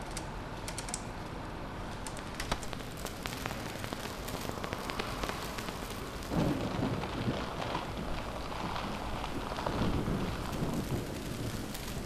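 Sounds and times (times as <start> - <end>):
dense crackling patter: 1.9 - 12.0.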